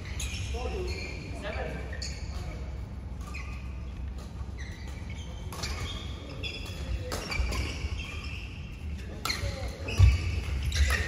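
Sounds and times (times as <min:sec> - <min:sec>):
shoes squeaking on court floor: 0:00.0 - 0:11.0.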